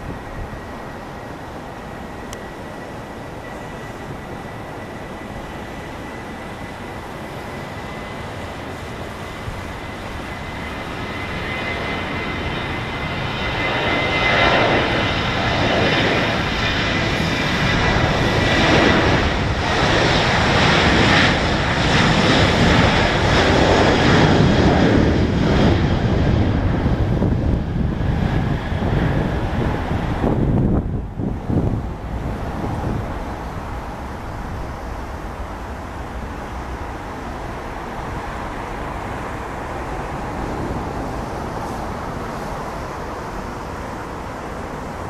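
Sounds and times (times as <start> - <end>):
jet engine high whine: 0.0 - 45.0
jet engine roar: 0.0 - 45.0.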